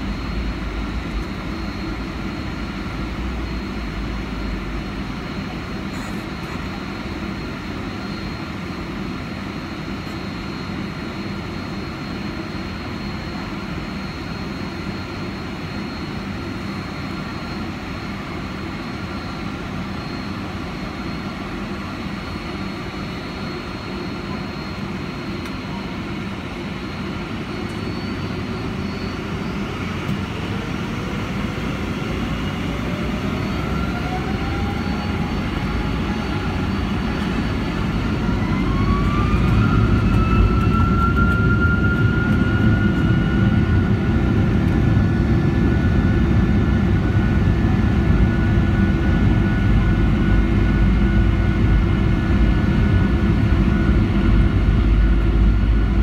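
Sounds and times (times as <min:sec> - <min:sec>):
jet engines rumbling and whining: 0:00.0 - 0:56.0.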